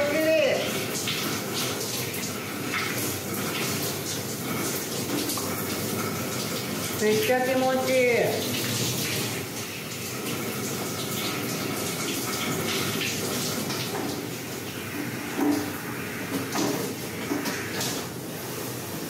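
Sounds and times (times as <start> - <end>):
shower water spraying on hair: 0.0 - 19.0.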